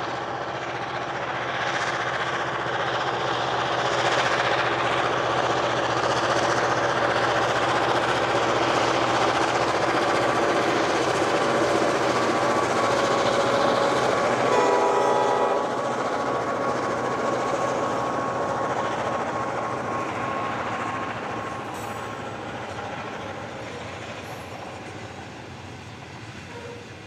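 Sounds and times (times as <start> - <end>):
diesel locomotives passing: 0.0 - 27.0
rail wagons rolling over track: 0.0 - 27.0.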